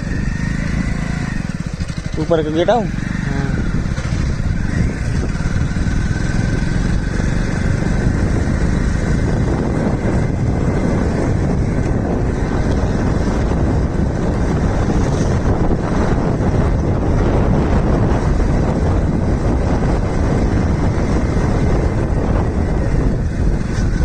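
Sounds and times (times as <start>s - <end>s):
moving vehicle rumble: 0.0s - 24.0s.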